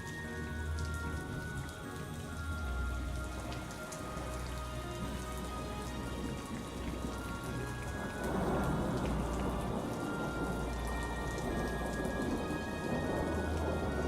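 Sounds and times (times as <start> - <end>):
faint sustained music tones: 0.0 - 14.0
low rumble of thunder: 0.0 - 14.0
steady rain: 0.0 - 14.0.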